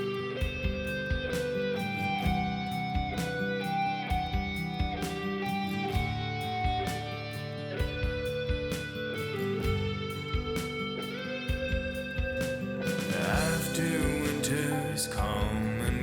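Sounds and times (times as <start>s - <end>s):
drum beat: 0.0s - 16.0s
electric guitar lead: 0.0s - 16.0s.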